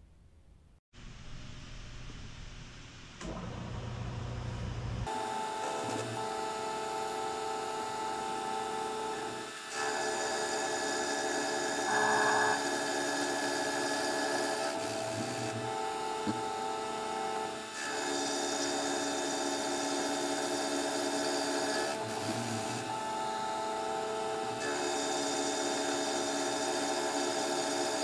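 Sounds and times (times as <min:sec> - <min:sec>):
milling machine cutting steel: 0:05.1 - 0:28.0.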